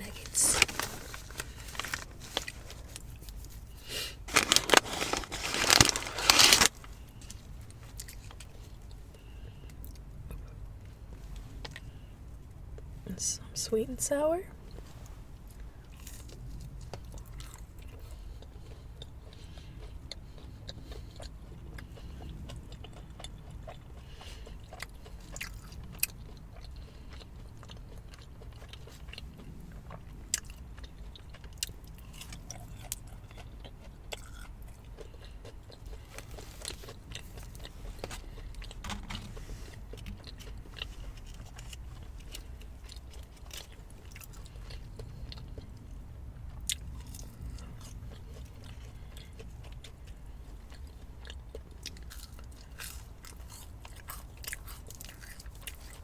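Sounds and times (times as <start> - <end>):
chewing and biting food: 0.0 - 12.0, 14.7 - 56.0
steady low hum: 0.0 - 56.0.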